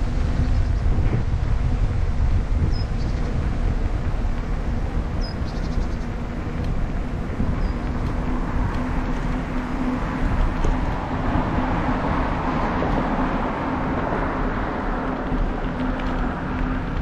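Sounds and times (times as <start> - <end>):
bicycle rolling along road: 0.0 - 17.0
deep rumble: 0.0 - 17.0
wind on the microphone: 0.0 - 17.0.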